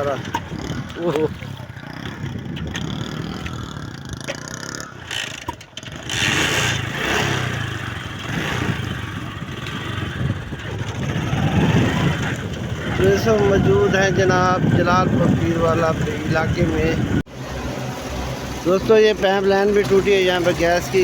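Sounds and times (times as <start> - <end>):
motorcycle engine moving off: 0.0 - 21.0.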